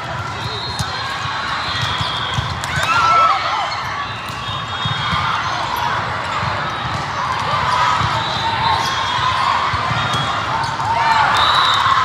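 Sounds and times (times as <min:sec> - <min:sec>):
murmur of crowd voices: 0:00.0 - 0:12.0.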